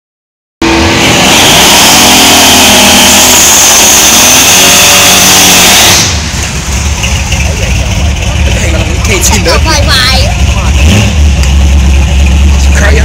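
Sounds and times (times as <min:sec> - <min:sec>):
truck engine revving: 0:00.6 - 0:13.0.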